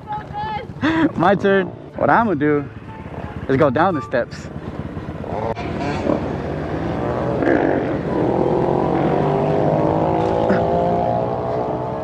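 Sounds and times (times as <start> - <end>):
pit bike engine running: 0.0 - 12.0.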